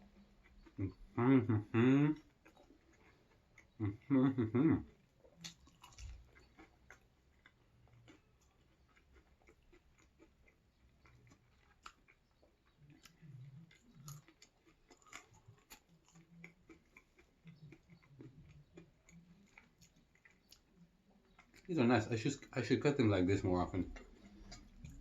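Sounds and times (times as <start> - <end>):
faint chewing of food: 0.0 - 25.0.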